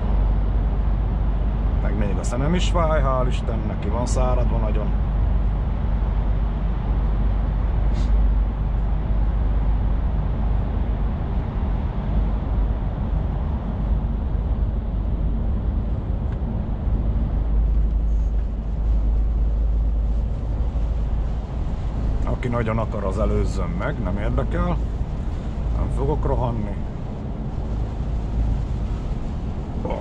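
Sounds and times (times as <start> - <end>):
truck engine drone: 0.0 - 30.0
tyre and road noise: 0.0 - 30.0.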